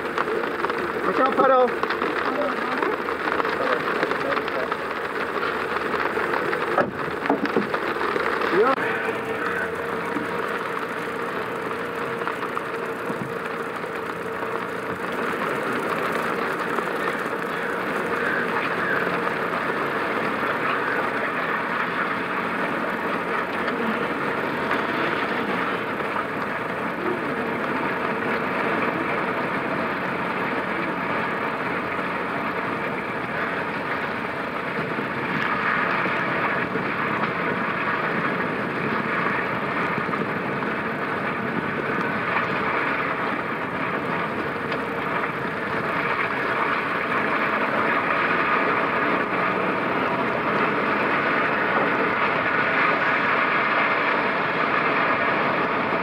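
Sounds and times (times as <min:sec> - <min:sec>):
tyres on wet road: 0:00.0 - 0:56.0.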